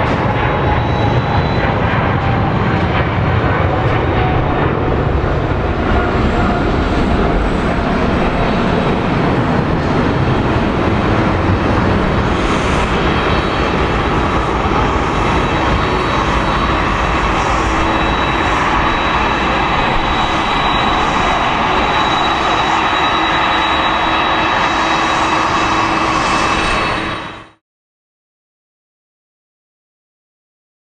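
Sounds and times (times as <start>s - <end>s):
jet engines roaring and whining: 0.0s - 27.6s.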